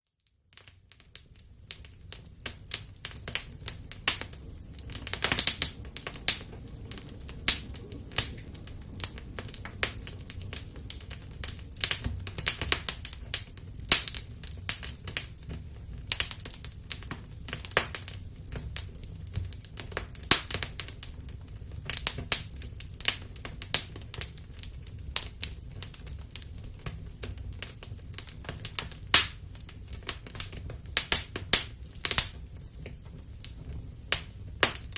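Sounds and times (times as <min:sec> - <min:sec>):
wood fire crackling and popping: 0:00.2 - 0:34.9
low rumble of flames: 0:00.5 - 0:34.9.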